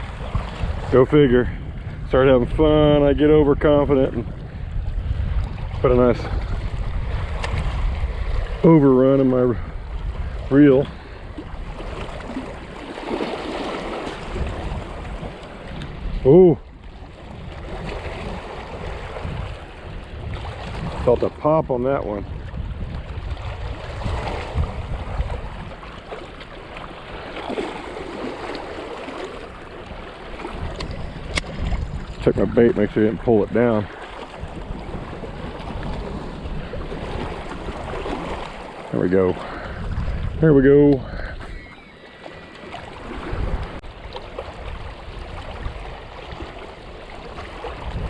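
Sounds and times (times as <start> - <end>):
rushing wind and water: 0.0 - 48.0
wind buffeting microphone: 0.0 - 48.0.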